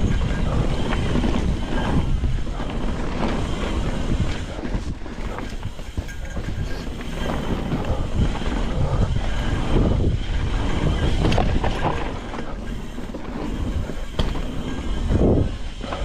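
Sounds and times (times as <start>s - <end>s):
tyres rumbling on dirt trail: 0.0s - 16.0s
wind buffeting microphone: 0.0s - 16.0s.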